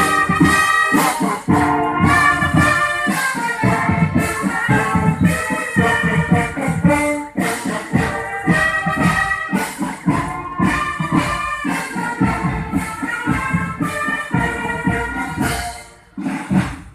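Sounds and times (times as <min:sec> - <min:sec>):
brass melody: 0:00.0 - 0:16.6
drums beating: 0:00.0 - 0:16.9.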